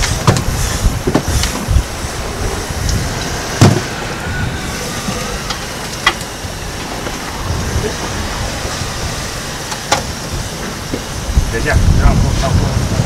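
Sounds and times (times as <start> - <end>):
boat engine rumble: 0.0 - 13.0
wind and water noise: 0.0 - 13.0.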